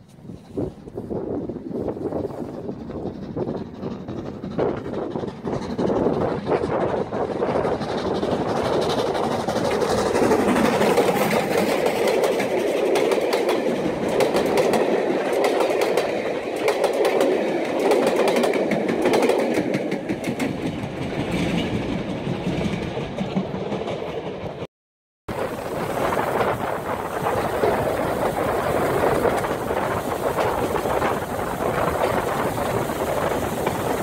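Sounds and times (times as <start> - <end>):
train passing at speed: 0.0 - 24.7, 25.3 - 34.0.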